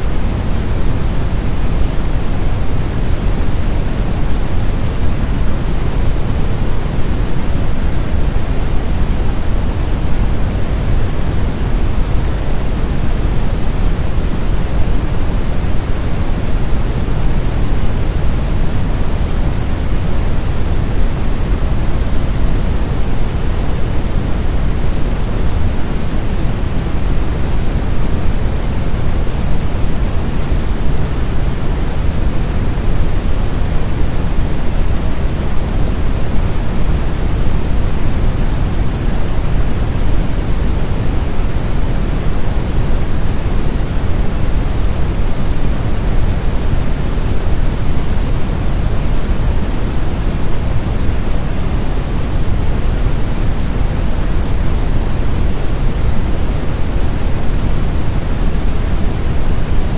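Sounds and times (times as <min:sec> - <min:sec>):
brown noise rumbling hiss: 0:00.0 - 0:59.9.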